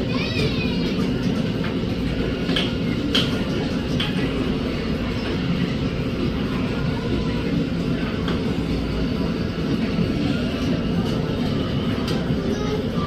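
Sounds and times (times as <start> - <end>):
freight train rumbling: 0.0 - 13.0
wheels clicking and clanking: 0.0 - 13.0.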